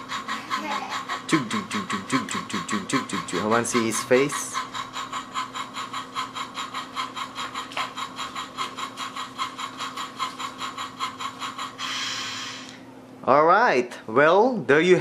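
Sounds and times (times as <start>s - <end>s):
electronic steam engine chugging: 0.0s - 12.7s.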